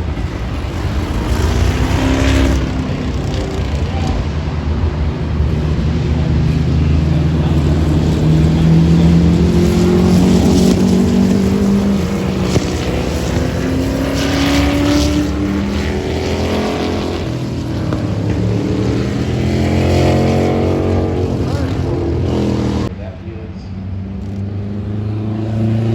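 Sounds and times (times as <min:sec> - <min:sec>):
racing car engine accelerating: 0:00.0 - 0:23.0, 0:23.9 - 0:25.9.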